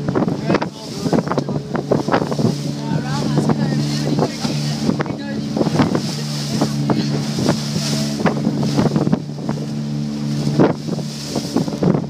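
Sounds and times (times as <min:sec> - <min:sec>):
boat motor running: 0:00.0 - 0:12.0
hull slapping through waves: 0:00.0 - 0:12.0
wind buffeting microphone: 0:00.0 - 0:12.0.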